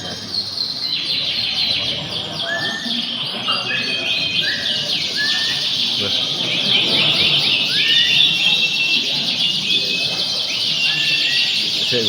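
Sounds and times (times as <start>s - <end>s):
canaries singing: 0.0s - 12.0s.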